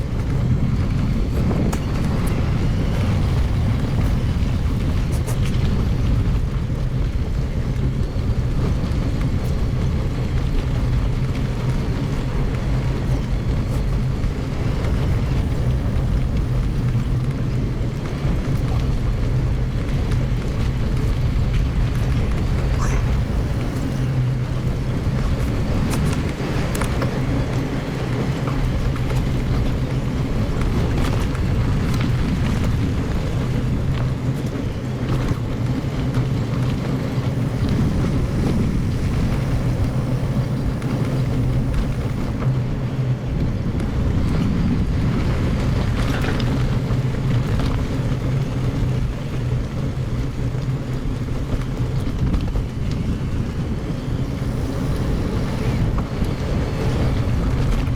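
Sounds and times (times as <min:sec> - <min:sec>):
bike tyres rumbling on gravel: 0:00.0 - 0:57.9.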